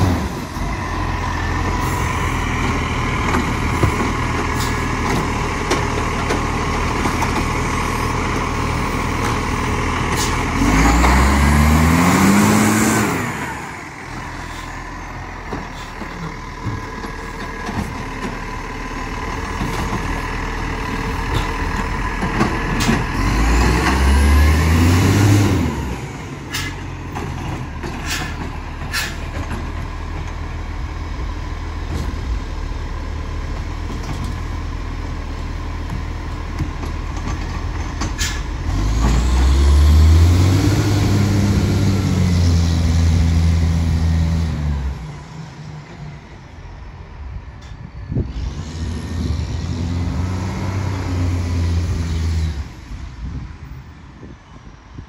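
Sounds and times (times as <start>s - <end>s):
diesel truck engine revving: 0.0s - 45.9s, 48.1s - 53.3s.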